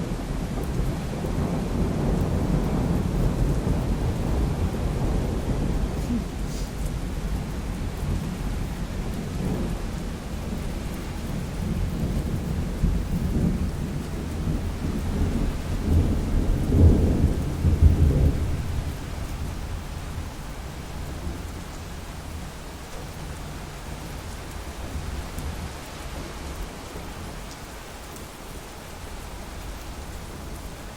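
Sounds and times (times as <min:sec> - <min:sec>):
low rumble of thunder: 0:00.0 - 0:27.5
steady rain: 0:00.0 - 0:30.9.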